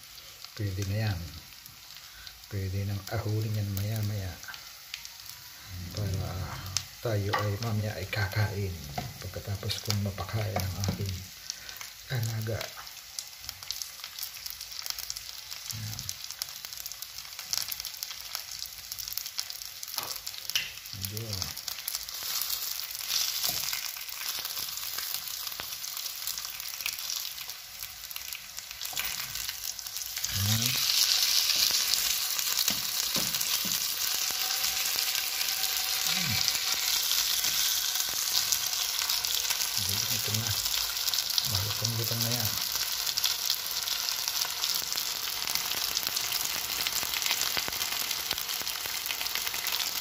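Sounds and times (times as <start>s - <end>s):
chicken frying in oil: 0.0s - 50.0s.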